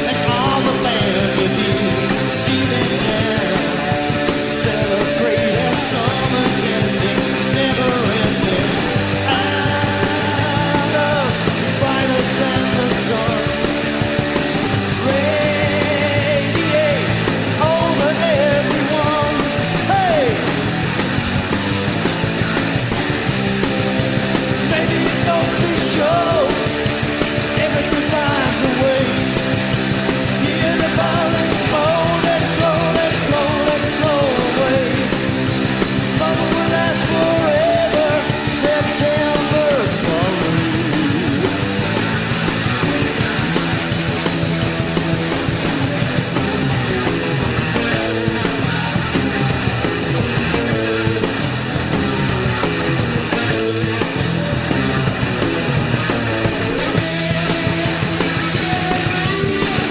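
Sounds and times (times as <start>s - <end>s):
electric guitars: 0.0s - 59.9s
punk rock band playing: 0.0s - 59.9s
steady drum beat: 0.0s - 59.9s.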